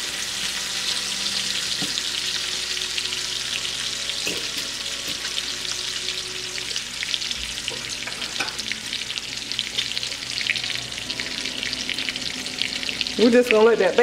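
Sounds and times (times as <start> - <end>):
bacon sizzling in a skillet: 0.0 - 14.0.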